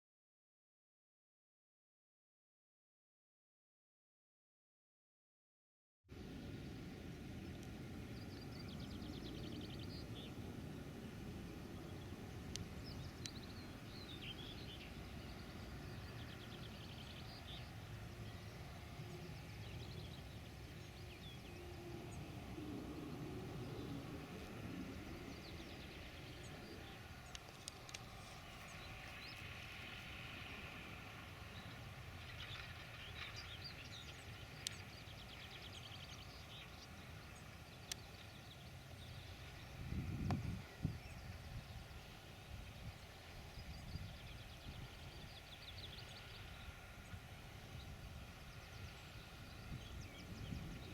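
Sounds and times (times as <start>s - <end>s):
small birds chirping: 7.4s - 30.6s, 31.3s - 50.9s.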